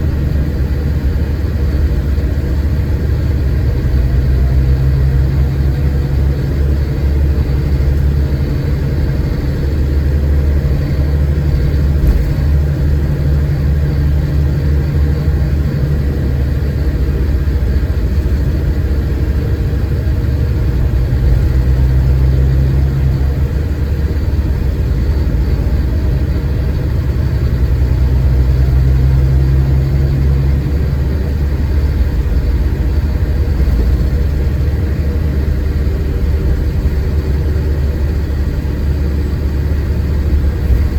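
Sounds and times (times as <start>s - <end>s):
diesel coach engine rumbling: 0.0s - 40.9s.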